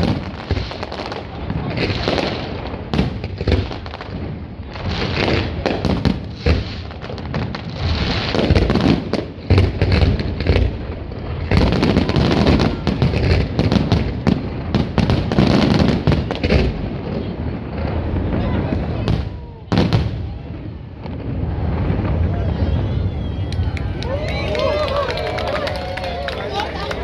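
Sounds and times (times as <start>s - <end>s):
fireworks cracking and booming: 0.0s - 27.0s.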